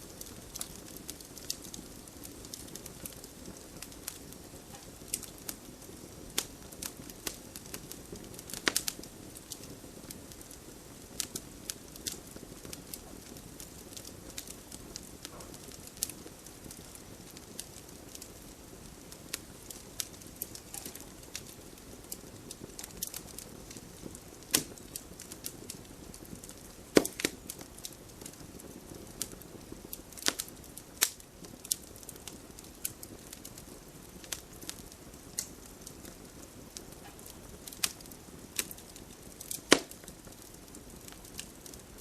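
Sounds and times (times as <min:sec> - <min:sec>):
wood fire crackling: 0:00.0 - 0:42.0
fire pops: 0:00.1 - 0:42.0.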